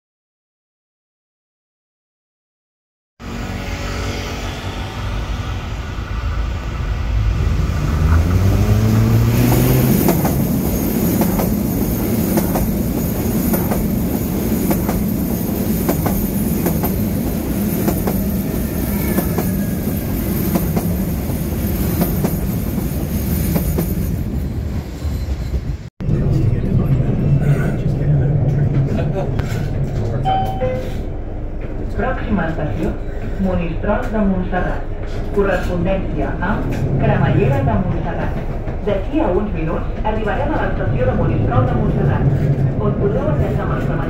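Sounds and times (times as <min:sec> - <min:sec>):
electric train rumbling past: 0:03.2 - 0:44.0.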